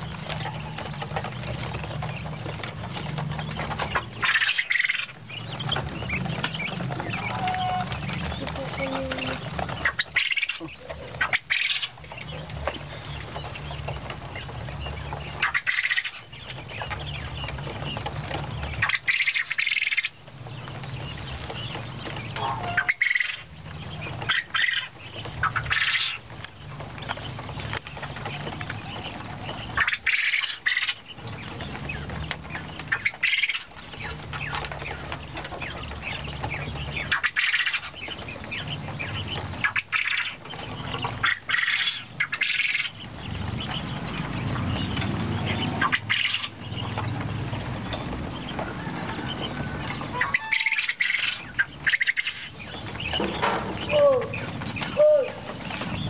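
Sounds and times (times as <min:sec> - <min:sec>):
quail squawking: 0:00.0 - 0:56.0
wings flapping: 0:00.0 - 0:56.0.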